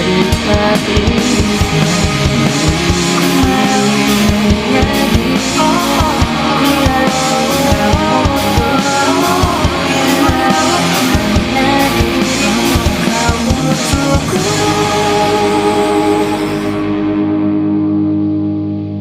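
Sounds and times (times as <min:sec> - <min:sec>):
fast drum-kit beat: 0:00.0 - 0:16.8
distorted electric guitars: 0:00.0 - 0:19.0.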